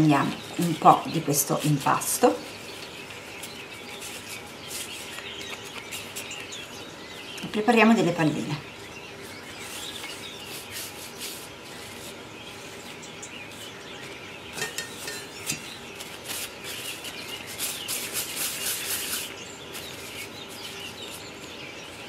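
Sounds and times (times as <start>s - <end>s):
hands rolling sticky dough: 0.0s - 8.5s, 9.2s - 22.0s.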